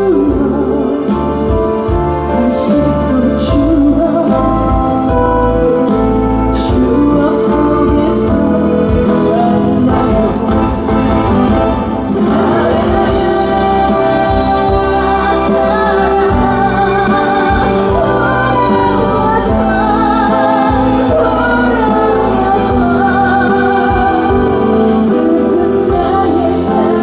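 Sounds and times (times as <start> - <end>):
band accompaniment: 0.0 - 27.0
woman singing with vibrato: 0.0 - 27.0.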